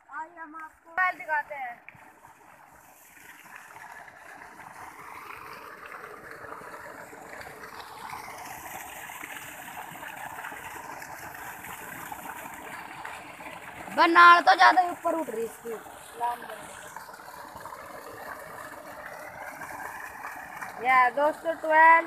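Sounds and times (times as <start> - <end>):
water gushing from pipe: 0.0 - 22.0.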